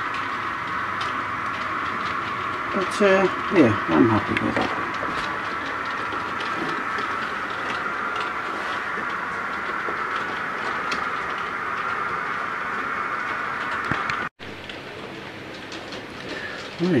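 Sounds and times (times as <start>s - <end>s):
wheels clicking over rail joints: 0.0s - 17.0s.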